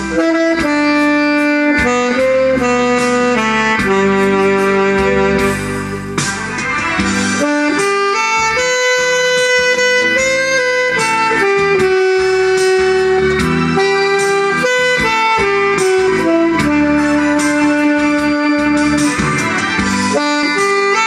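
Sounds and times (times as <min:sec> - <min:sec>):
instrumental accompaniment: 0:00.0 - 0:21.0
saxophone slow melody: 0:00.0 - 0:21.0.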